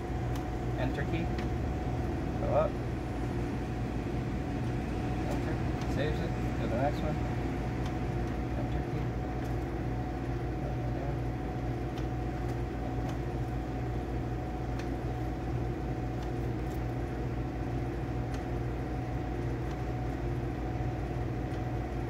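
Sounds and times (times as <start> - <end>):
vending machines humming: 0.0 - 22.0.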